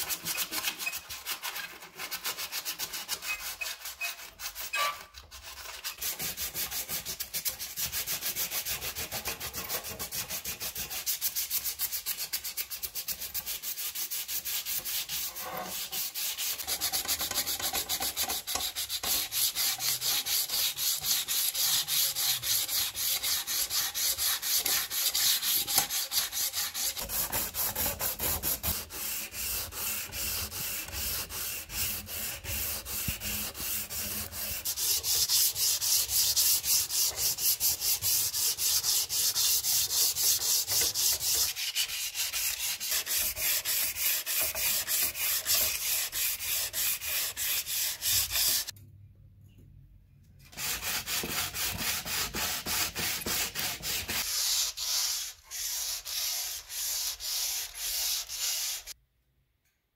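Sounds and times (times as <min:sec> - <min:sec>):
sandpaper scraping metal: 0:00.0 - 0:48.7, 0:50.5 - 0:59.0.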